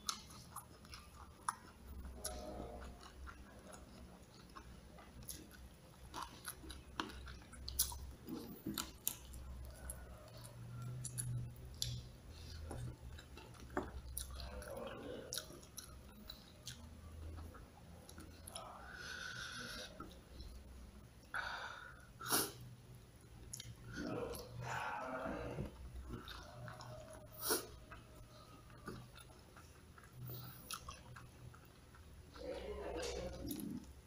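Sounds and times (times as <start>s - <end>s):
chewing food: 0.0s - 34.0s.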